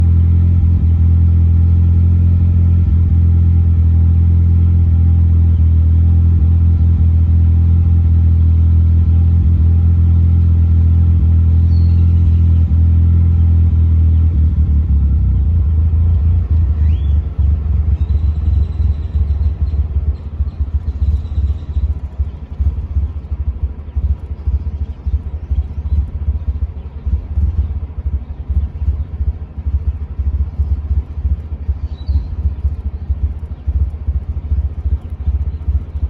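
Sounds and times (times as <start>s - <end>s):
car engine idling rough: 0.0s - 36.0s.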